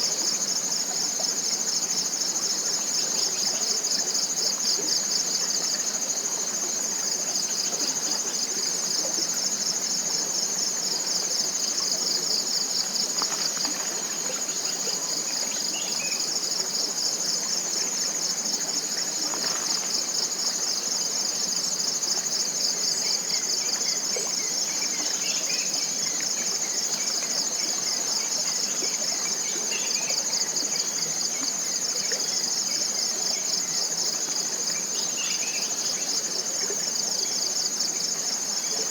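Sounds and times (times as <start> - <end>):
insects buzzing: 0.0 - 31.9.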